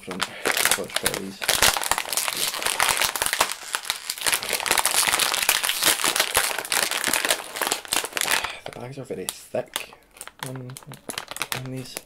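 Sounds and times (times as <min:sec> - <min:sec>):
snack bag crinkling: 0:00.0 - 0:12.0.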